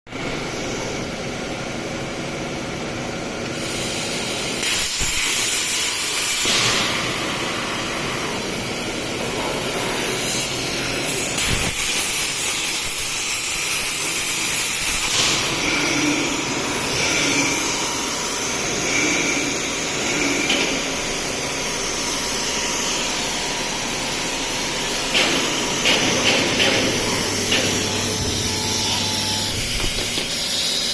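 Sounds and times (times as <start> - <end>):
plasma torch hissing: 3.5 - 30.9.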